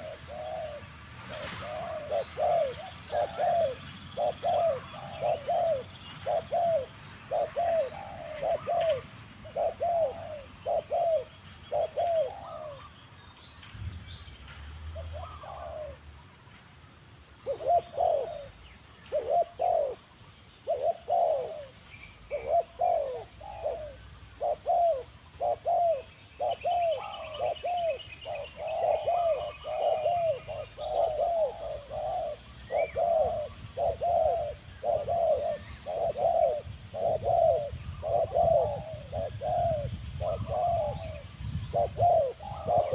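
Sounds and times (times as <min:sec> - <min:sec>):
dove cooing: 0:00.0 - 0:12.9, 0:15.0 - 0:16.0, 0:17.4 - 0:42.9.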